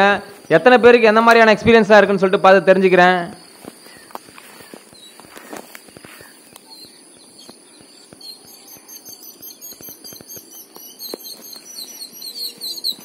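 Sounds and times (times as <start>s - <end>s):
birds chirping: 0.0s - 13.0s
high-pitched insect drone: 2.3s - 13.0s.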